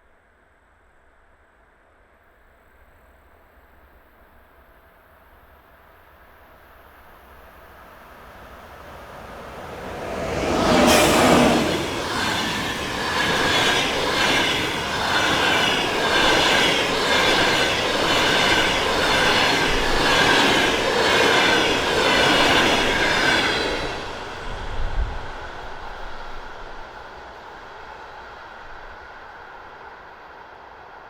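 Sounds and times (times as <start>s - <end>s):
passenger train passing: 5.9s - 31.0s.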